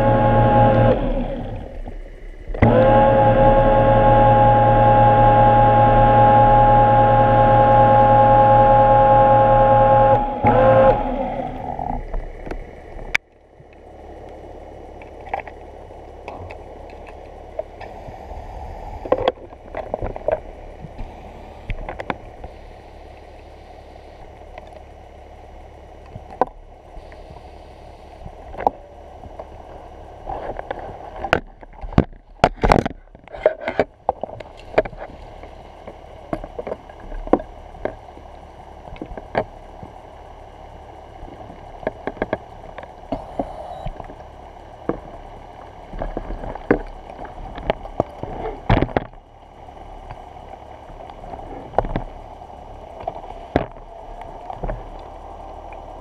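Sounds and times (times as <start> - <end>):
underwater scooter motor whine: 0.0 - 56.0
underwater water noise: 0.0 - 56.0.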